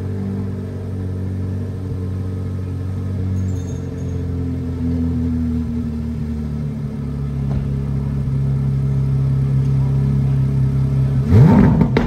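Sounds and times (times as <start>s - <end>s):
sports car engine idling and revving: 0.0s - 12.0s.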